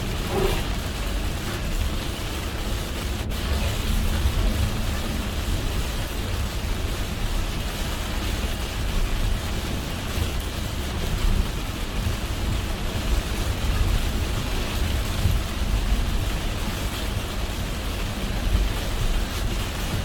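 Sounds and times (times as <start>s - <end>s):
car road and tyre noise: 0.0s - 20.0s
heavy rain on a car: 0.0s - 20.0s.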